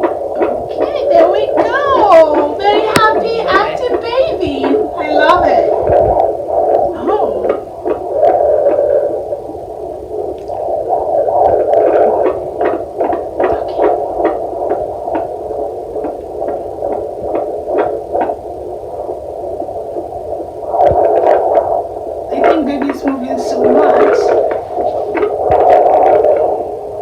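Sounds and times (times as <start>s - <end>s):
fetal doppler whooshing hum: 0.0s - 27.0s.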